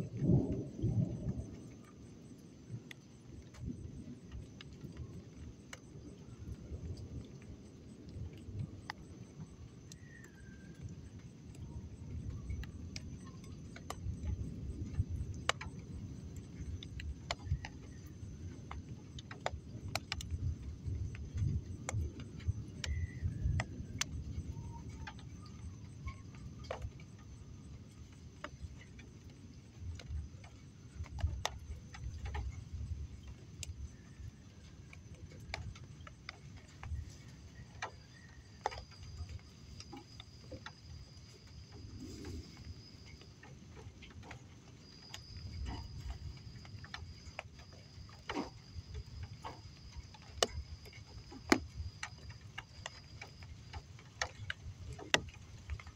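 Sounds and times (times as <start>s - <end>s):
low storm rumble: 0.0s - 55.9s
sharp ticks and clicks: 0.1s - 34.0s, 38.6s - 55.9s.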